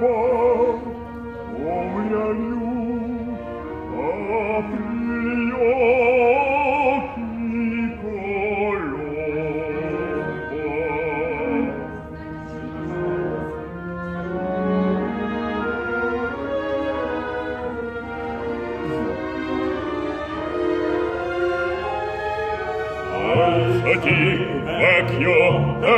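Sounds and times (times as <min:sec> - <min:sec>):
operatic singing: 0:00.0 - 0:25.9
orchestra: 0:00.0 - 0:25.9.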